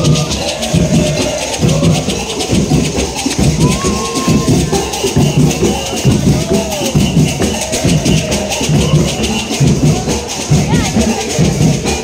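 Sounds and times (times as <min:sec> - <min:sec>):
crowd voices: 0:00.0 - 0:12.0
percussion band drums shakers bells: 0:00.0 - 0:12.0.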